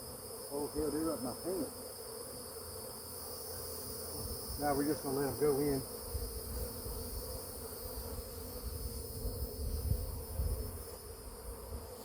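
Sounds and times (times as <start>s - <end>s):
honey bee swarm humming: 0.0s - 12.0s.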